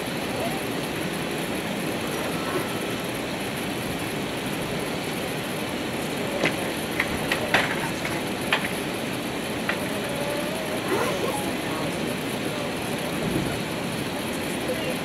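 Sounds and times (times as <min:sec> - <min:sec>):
airplane cabin noise while taxiing: 0:00.0 - 0:15.0.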